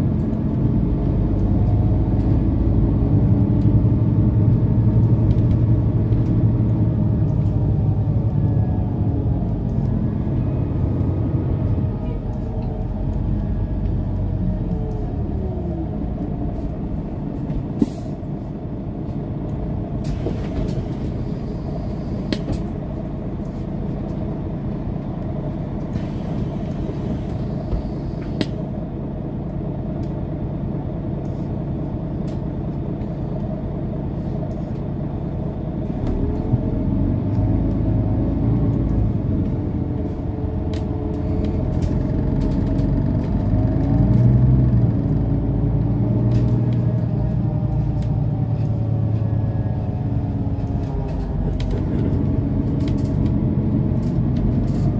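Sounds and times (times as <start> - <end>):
bus engine and road drone: 0.0 - 54.9.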